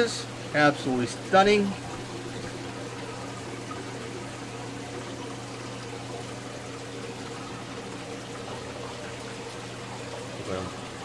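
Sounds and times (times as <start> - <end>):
aquarium water trickling: 0.0 - 11.0
steady low hum: 0.0 - 11.0.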